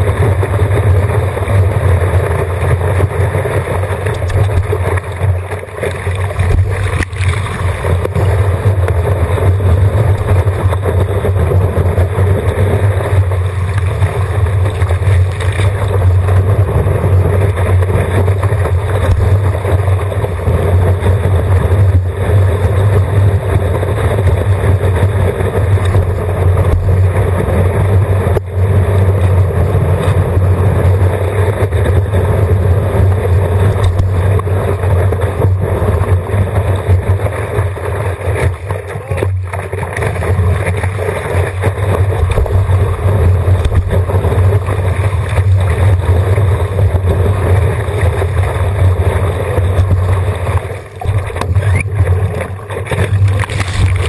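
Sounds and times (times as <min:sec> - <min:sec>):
low rumble: 0:00.0 - 0:54.0
water rushing and splashing: 0:00.0 - 0:54.0.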